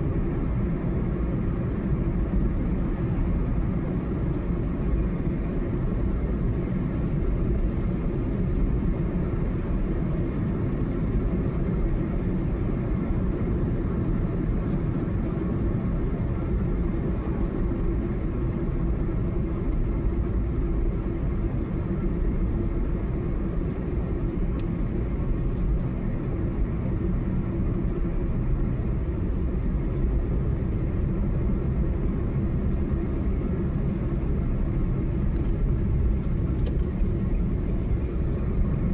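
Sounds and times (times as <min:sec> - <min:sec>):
car driving on highway: 0:00.0 - 0:38.9.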